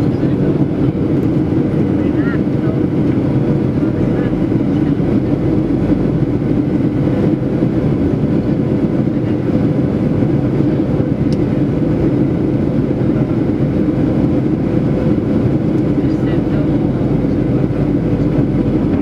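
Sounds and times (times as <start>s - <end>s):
airplane cabin engine and airflow noise: 0.0s - 19.0s
steady cabin hum: 0.0s - 19.0s.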